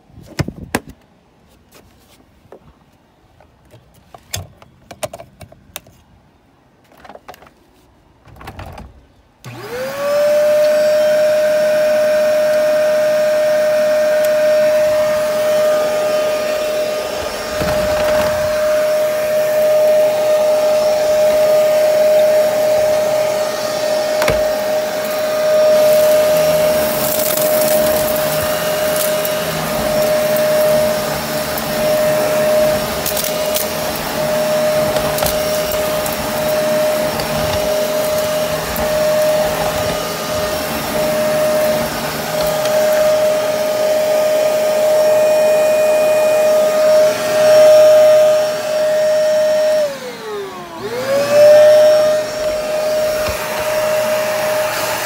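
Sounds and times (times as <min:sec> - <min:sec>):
upright vacuum whining: 0:09.4 - 0:55.0.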